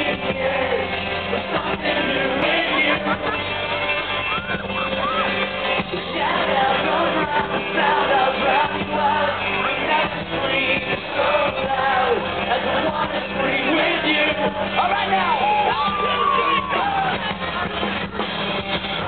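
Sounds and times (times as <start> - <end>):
rock band playing live: 0.0 - 19.0
singer's voice: 0.0 - 19.0.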